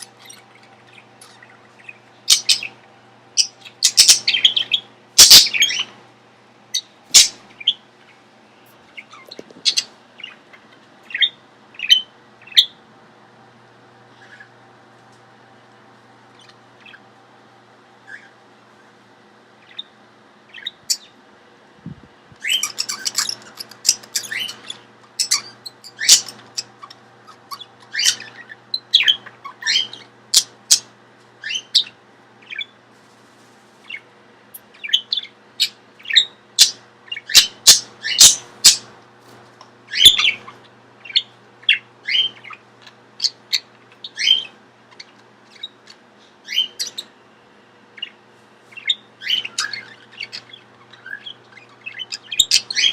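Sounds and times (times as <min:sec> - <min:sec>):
parrots chirping and squawking: 0:00.0 - 0:06.0, 0:06.7 - 0:12.8, 0:14.1 - 0:14.6, 0:16.3 - 0:17.2, 0:18.0 - 0:21.2, 0:22.4 - 0:32.8, 0:33.8 - 0:38.9, 0:39.9 - 0:47.2, 0:47.9 - 0:52.9.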